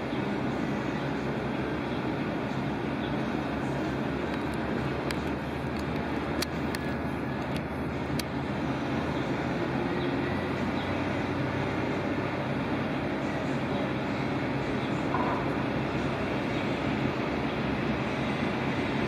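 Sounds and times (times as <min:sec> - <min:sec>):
jet engines idling: 0:00.0 - 0:19.0
low steady hum: 0:00.0 - 0:19.0.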